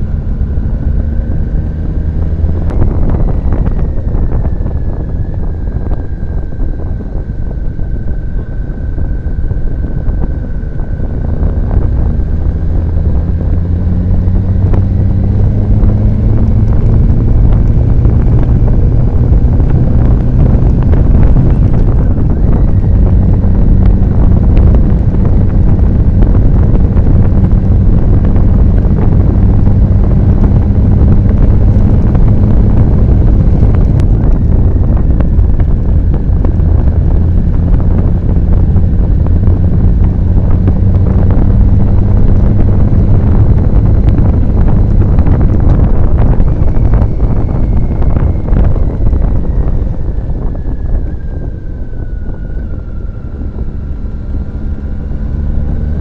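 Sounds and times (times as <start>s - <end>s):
motorcycle engine: 0.0s - 56.0s
wind rumble on microphone: 0.0s - 56.0s.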